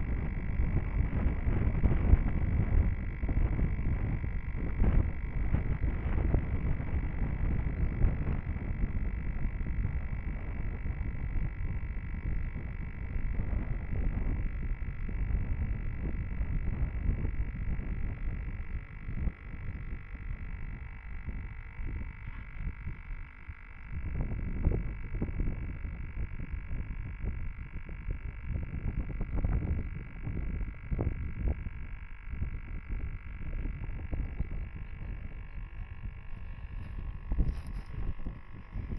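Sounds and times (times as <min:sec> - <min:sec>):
high-pitched electronic whine: 0:00.0 - 0:38.9
wind buffeting microphone: 0:00.0 - 0:38.9.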